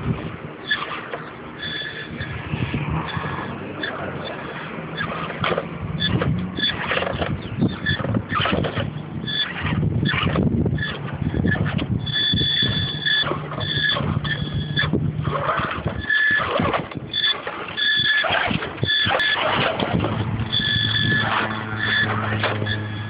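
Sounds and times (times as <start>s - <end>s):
clicking and scraping: 0.0s - 23.0s
electric motor whining: 0.0s - 23.0s.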